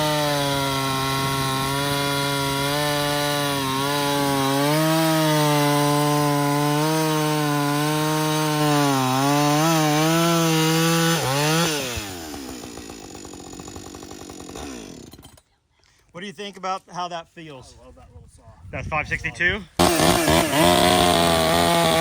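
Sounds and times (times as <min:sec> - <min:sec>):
chainsaw cutting wood: 0:00.0 - 0:15.4, 0:19.8 - 0:22.0.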